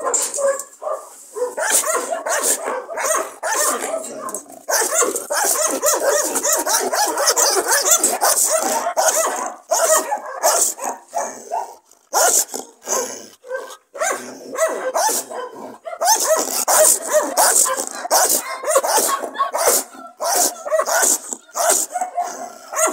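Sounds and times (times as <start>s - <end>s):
dog barking and snarling: 0.0s - 22.9s.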